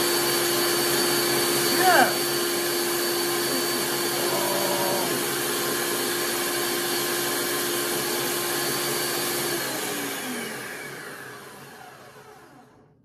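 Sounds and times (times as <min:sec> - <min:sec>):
blender motor running: 0:00.0 - 0:12.9.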